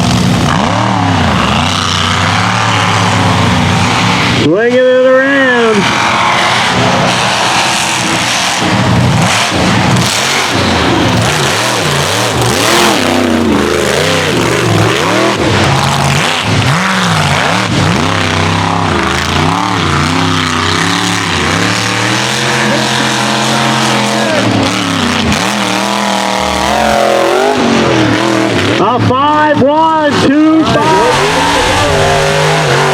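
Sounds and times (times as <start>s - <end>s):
truck engine revving: 0.0s - 32.9s.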